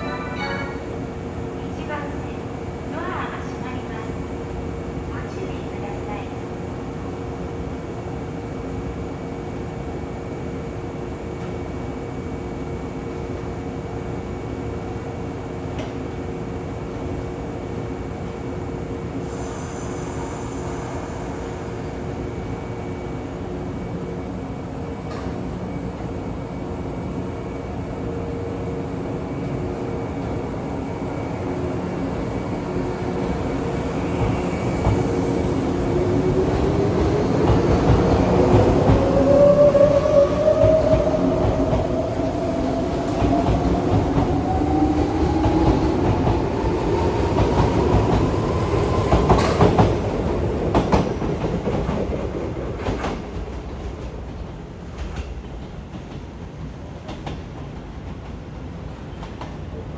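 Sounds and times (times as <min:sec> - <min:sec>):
steady train hum: 0:00.0 - 0:59.9.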